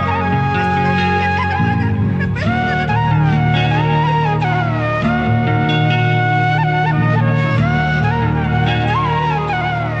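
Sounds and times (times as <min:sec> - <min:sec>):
sliding melody: 0:00.0 - 0:10.0.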